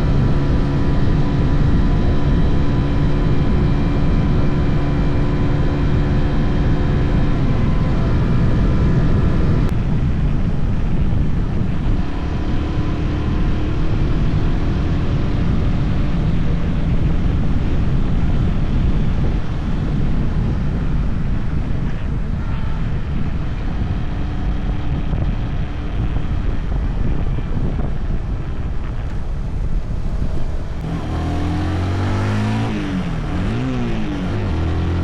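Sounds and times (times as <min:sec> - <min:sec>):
motorcycle engine running: 0:00.0 - 0:35.0
wind noise: 0:00.0 - 0:35.0.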